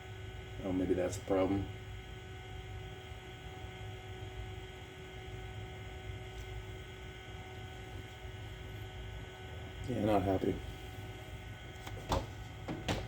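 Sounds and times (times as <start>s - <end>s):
computer fan hum: 0.0s - 13.0s
hard drive spinning: 0.0s - 13.0s.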